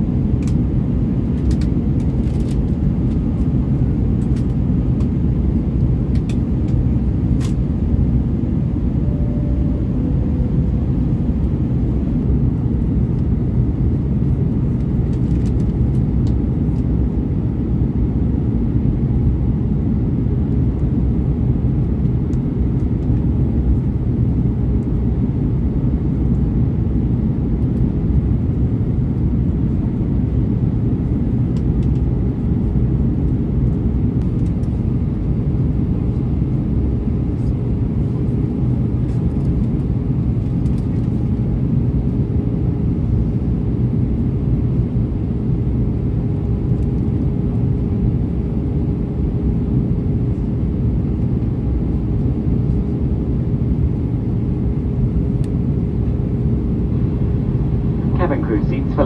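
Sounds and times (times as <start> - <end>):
airliner cabin engine rumble: 0.0 - 59.0
faint steady hum: 0.0 - 59.0.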